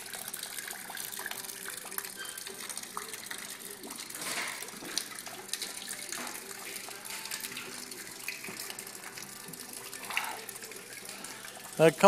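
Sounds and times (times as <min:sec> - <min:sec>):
liquid trickling and splashing: 0:00.0 - 0:12.0.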